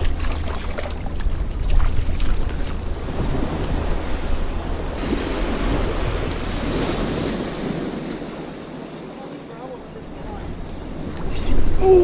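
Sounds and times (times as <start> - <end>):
small waves washing on shore: 0.0 - 12.0
wind buffeting microphone: 0.0 - 12.0.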